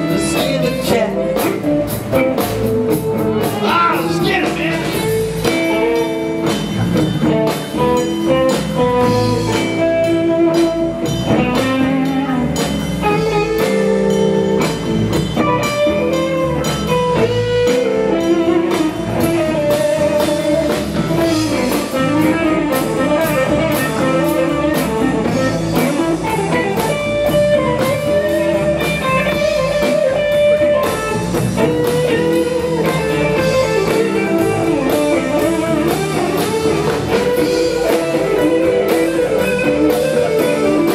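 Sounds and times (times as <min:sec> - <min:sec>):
blues band playing: 0:00.0 - 0:40.9.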